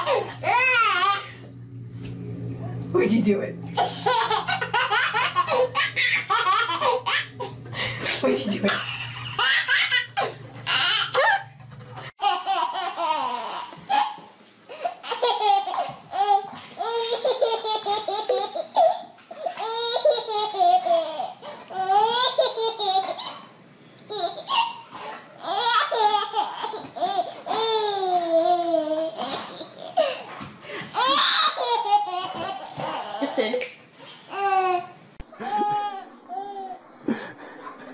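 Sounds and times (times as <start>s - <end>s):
baby laughing: 0.0s - 1.3s, 3.8s - 7.6s, 8.7s - 11.5s, 12.2s - 23.5s, 24.1s - 30.3s, 30.9s - 33.4s, 34.3s - 36.8s.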